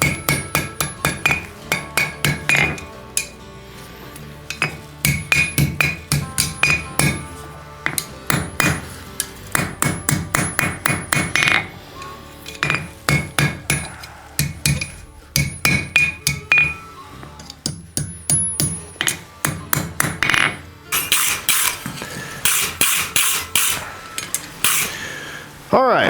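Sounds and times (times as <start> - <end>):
hammer ringing on anvil: 0.0 - 3.4, 4.5 - 17.0, 17.6 - 25.0.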